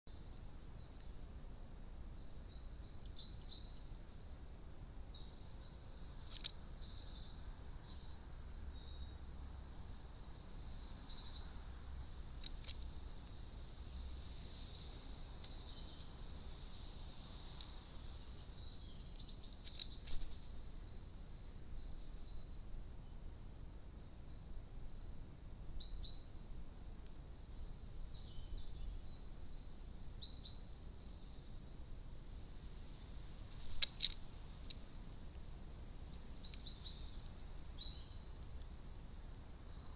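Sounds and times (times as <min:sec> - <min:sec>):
faint bird chirps: 0:00.1 - 0:01.3, 0:02.1 - 0:11.6, 0:13.9 - 0:26.6, 0:27.4 - 0:34.2, 0:36.0 - 0:38.5
outdoor background noise: 0:00.1 - 0:39.9.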